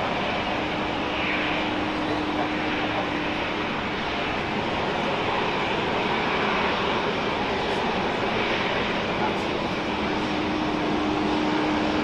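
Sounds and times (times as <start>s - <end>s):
jet airliner engine rush: 0.0s - 12.0s.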